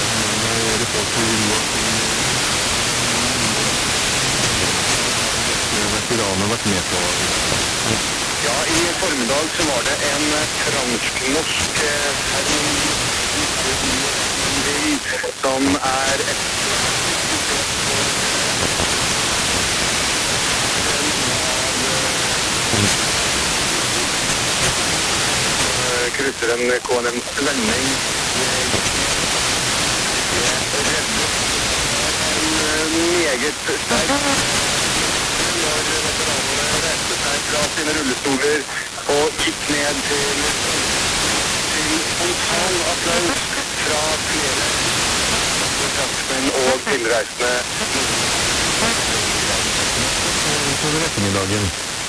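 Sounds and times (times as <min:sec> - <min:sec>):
faint voice: 0:00.0 - 0:29.3, 0:30.0 - 0:51.8
faint radio speech: 0:00.0 - 0:52.0
radio static hiss: 0:00.0 - 0:52.0.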